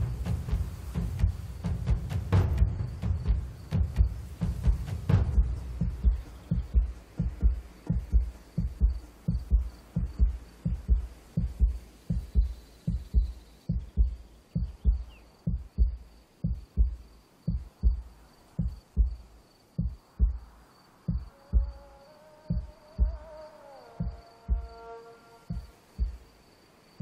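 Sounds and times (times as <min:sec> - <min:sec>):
heartbeat thumps: 0:00.0 - 0:21.9, 0:22.5 - 0:24.8, 0:25.5 - 0:26.4.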